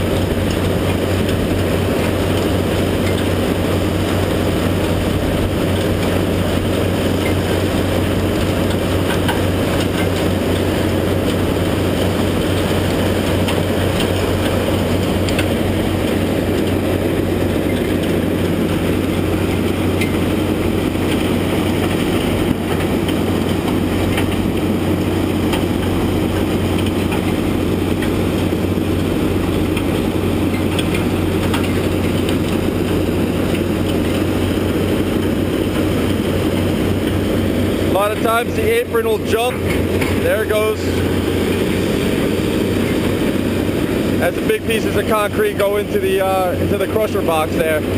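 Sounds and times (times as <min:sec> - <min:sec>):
diesel machinery engine hum: 0:00.0 - 0:47.9.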